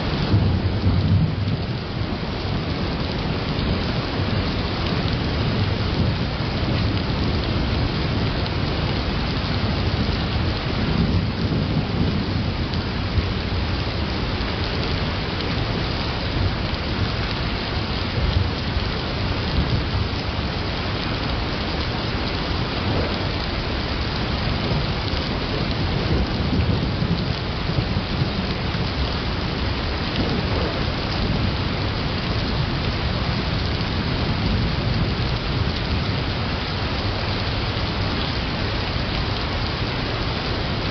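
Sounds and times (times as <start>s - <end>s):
low thunder rumbles: 0.0s - 40.9s
steady rain: 0.0s - 40.9s.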